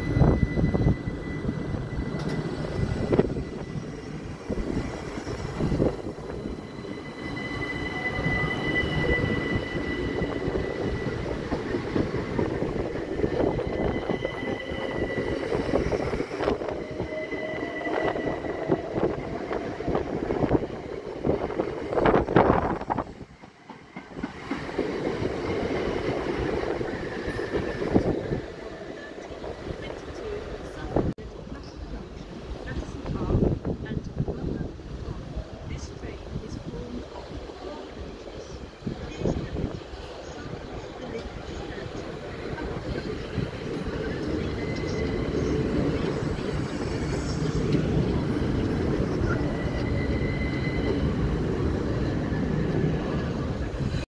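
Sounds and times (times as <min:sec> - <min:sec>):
electric train wheels rumbling on rails: 0:00.0 - 0:54.0.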